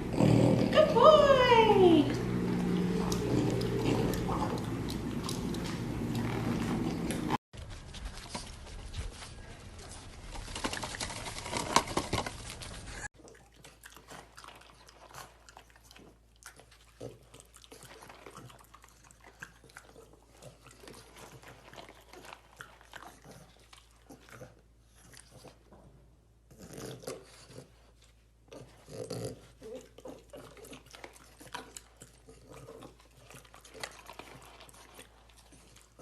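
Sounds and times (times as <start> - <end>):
puppy chewing and gnawing: 2.1 - 36.0.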